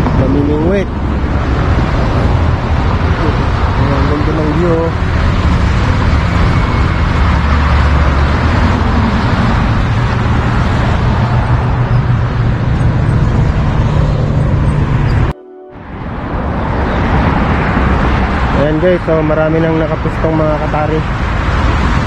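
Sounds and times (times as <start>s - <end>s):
road traffic rumble and hiss: 0.0s - 22.0s.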